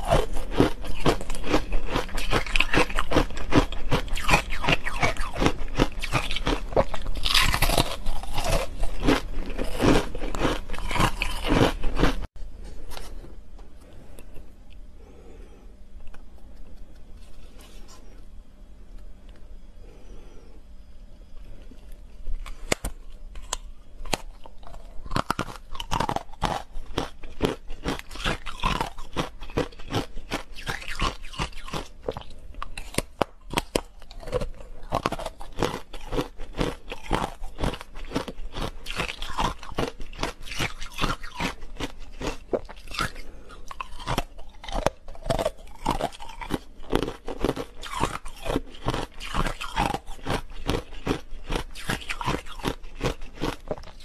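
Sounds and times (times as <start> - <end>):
ice being crunched and chewed: 0.0 - 12.3, 21.7 - 54.0.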